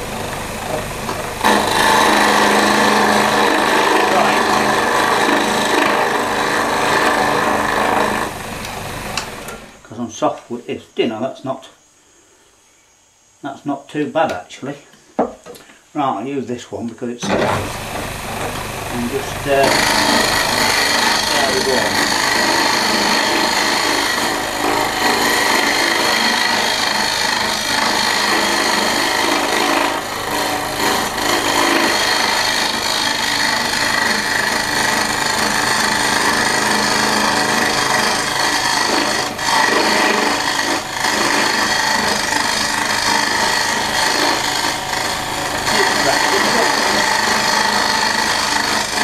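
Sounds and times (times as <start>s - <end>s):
hand tool scraping wood: 0.0s - 9.8s, 17.2s - 49.0s
wood lathe whine: 0.0s - 9.9s, 17.2s - 49.0s.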